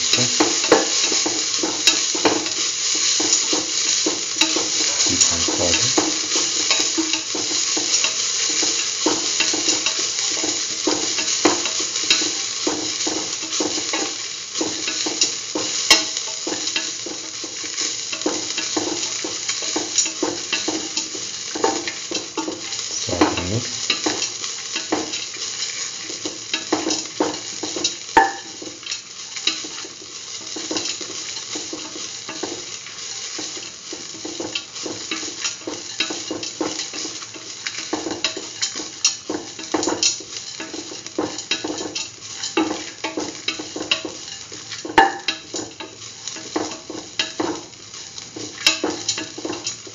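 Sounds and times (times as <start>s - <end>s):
food sizzling in oil: 0.0s - 49.9s.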